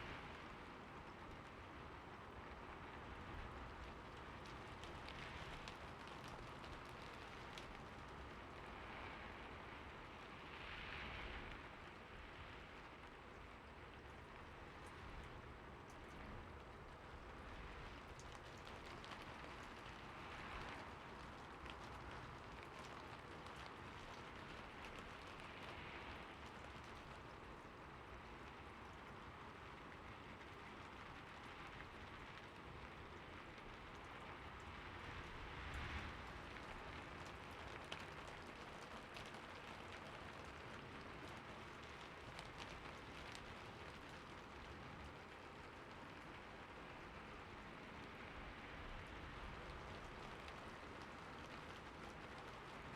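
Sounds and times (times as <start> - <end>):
faint steady rain hiss: 0.0 - 52.9
raindrops ticking: 3.4 - 8.8, 13.0 - 52.9.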